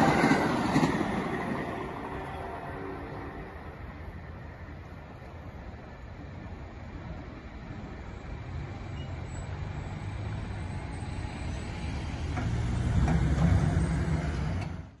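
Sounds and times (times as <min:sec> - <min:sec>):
car crossing railroad crossing: 0:00.0 - 0:15.0.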